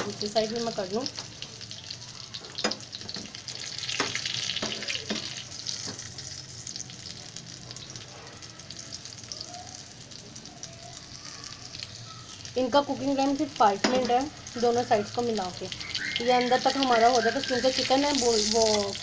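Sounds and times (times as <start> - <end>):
patties sizzling in hot oil: 0.0 - 19.0.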